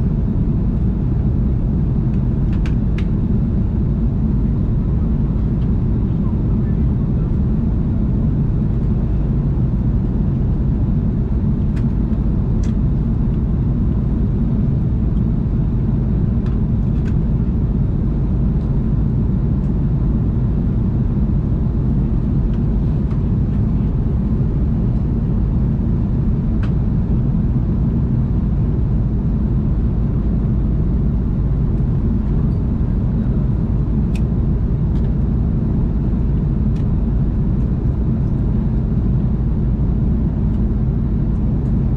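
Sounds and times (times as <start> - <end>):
airliner cabin drone: 0.0 - 41.9.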